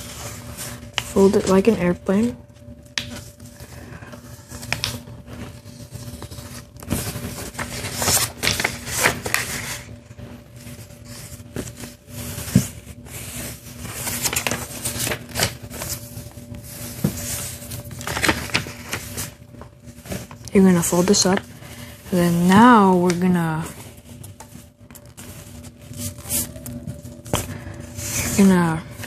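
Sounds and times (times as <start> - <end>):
paper folding and rustling: 0.0 - 2.0, 2.9 - 29.0
faint steady hum: 0.0 - 29.0.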